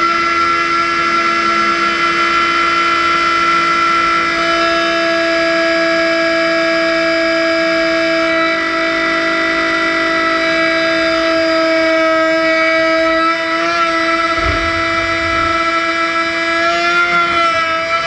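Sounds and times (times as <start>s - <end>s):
boat engine whining: 0.0s - 18.0s.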